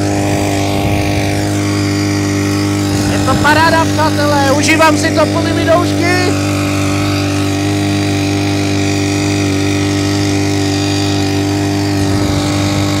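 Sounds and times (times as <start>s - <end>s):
small outboard motor running: 0.0s - 13.0s.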